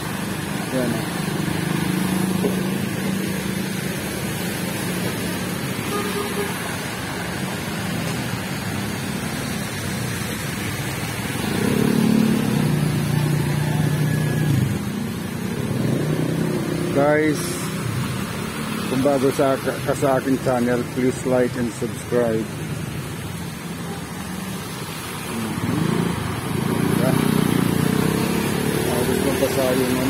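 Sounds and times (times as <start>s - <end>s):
motorcycle and car engines: 0.0s - 30.0s
tyres pushing through water: 0.0s - 30.0s.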